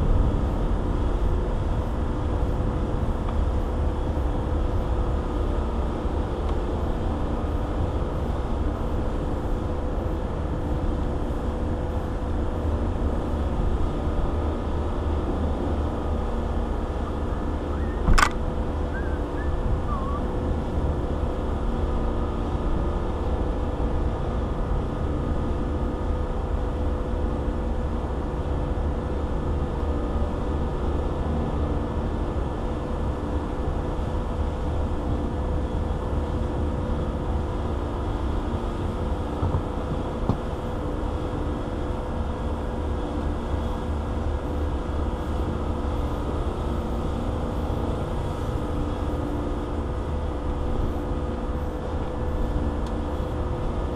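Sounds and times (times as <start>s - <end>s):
low mechanical hum: 0.0s - 53.9s.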